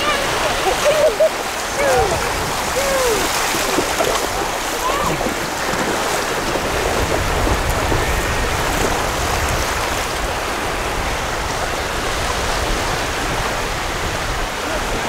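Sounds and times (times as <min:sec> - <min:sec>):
small waves splashing: 0:00.0 - 0:15.0.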